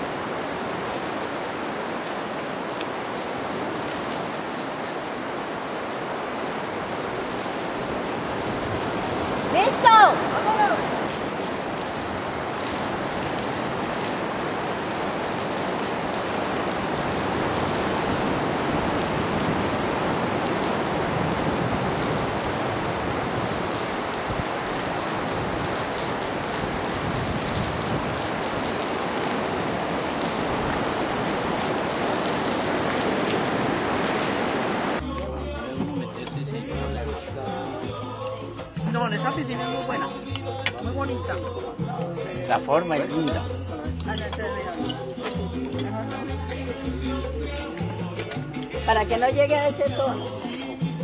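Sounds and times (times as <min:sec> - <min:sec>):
water rushing: 0:00.0 - 0:51.0.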